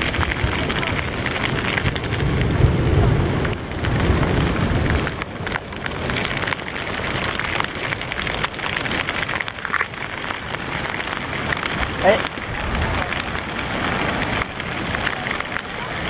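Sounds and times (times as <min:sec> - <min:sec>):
rain drops ticking: 0:00.0 - 0:16.0
thunder rumble: 0:00.0 - 0:16.0.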